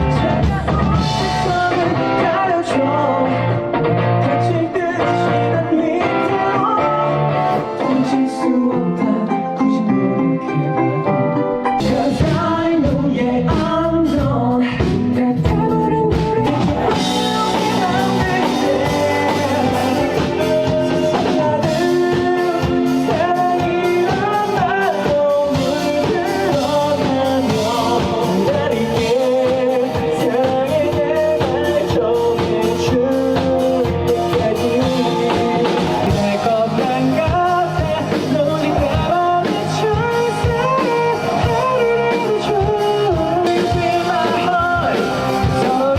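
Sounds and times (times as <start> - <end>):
drums: 0.0 - 45.9
guitar: 0.0 - 45.9
man singing pop ballad: 0.0 - 45.9.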